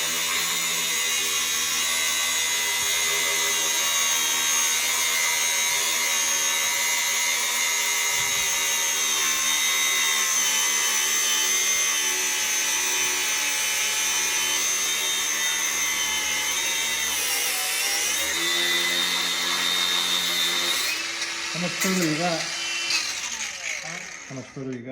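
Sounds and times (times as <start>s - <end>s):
electric power tool running: 0.0s - 24.9s.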